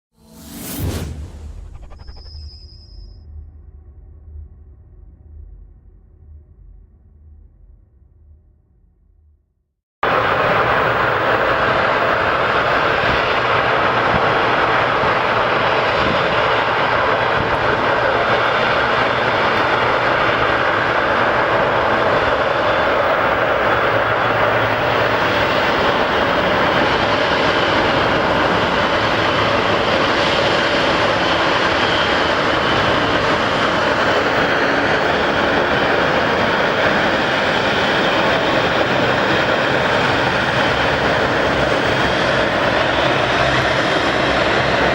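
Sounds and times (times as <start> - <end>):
jet engines rushing: 0.2 - 3.0, 10.0 - 44.9.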